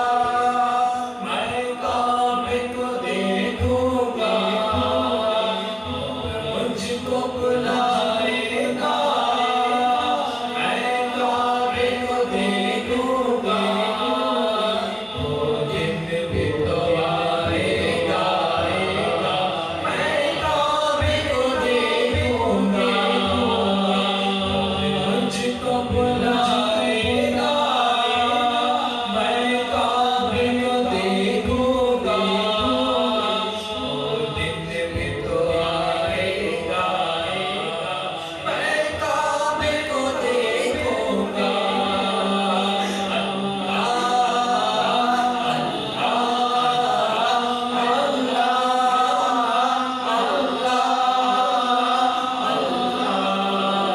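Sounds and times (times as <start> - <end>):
hummed vocal drone: 0.0 - 53.9
man singing with echo: 0.0 - 53.9.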